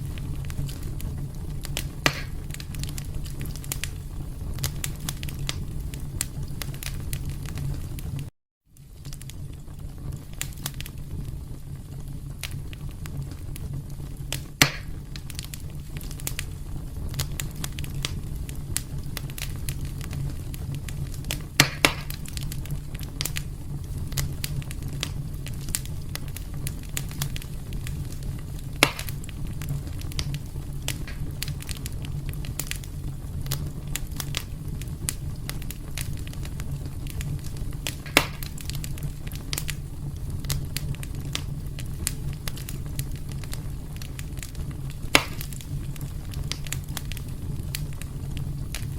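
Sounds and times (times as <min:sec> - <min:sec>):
fire low rumble: 0:00.0 - 0:48.9
loud fire pops: 0:00.0 - 0:48.9
wood fire crackling: 0:00.0 - 0:48.9.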